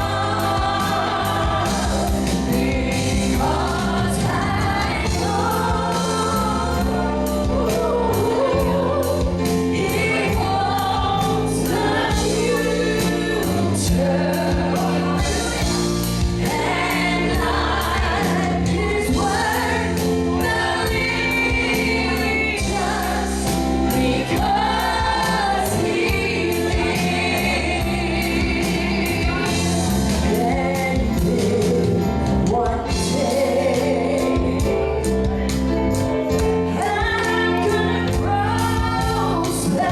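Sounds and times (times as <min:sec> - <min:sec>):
band with bass: 0:00.0 - 0:39.9
choir singing gospel: 0:00.0 - 0:39.9
steady drum beat: 0:00.0 - 0:39.9.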